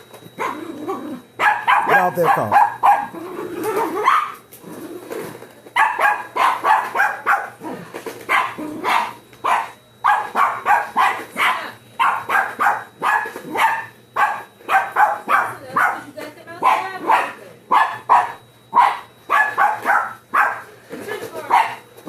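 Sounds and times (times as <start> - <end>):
dog barking: 0.4 - 0.6, 1.4 - 4.4, 5.8 - 20.7, 21.5 - 21.9.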